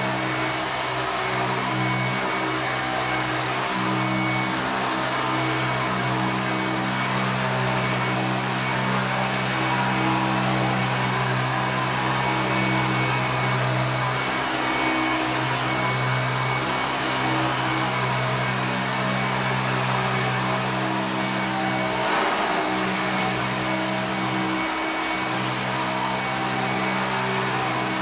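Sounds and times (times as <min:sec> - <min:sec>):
vacuum cleaner running: 0:03.8 - 0:28.0.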